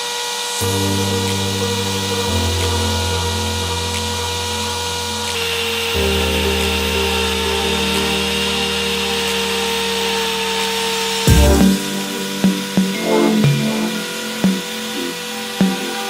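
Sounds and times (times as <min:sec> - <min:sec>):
background music: 0:00.6 - 0:16.0.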